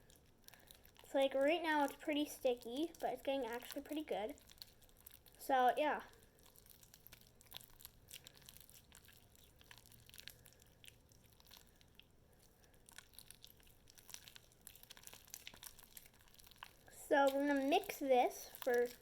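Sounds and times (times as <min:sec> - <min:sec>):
sticky slime crackles and clicks: 0:00.0 - 0:19.0.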